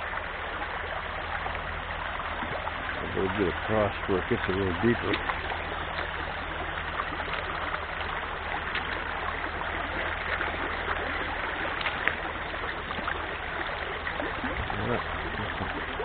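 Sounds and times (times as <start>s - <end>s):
stream running over rocks: 0.0s - 16.0s.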